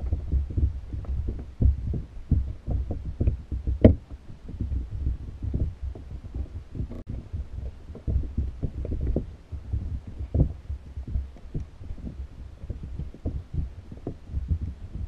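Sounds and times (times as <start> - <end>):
muffled underwater thuds and rumble: 0.0 - 15.0.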